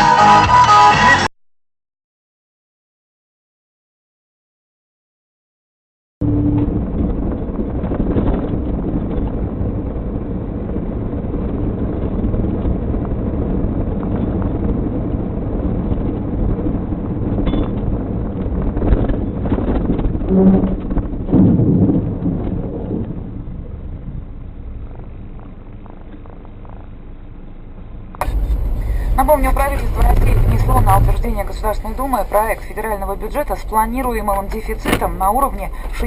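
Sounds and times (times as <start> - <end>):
car road and engine noise: 6.2 - 36.0.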